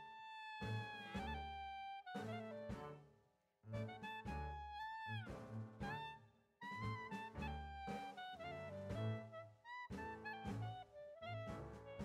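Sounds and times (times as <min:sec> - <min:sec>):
bass line: 0:00.6 - 0:03.0, 0:03.7 - 0:12.0
jazzy horn melody: 0:00.6 - 0:03.0, 0:03.7 - 0:12.0.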